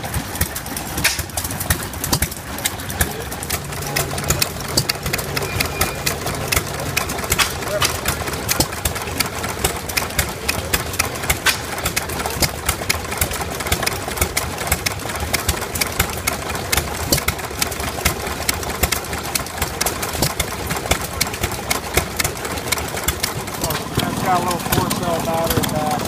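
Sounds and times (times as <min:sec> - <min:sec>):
sharp clicking knocks: 0:00.0 - 0:26.0
small engine chugging: 0:00.0 - 0:26.0.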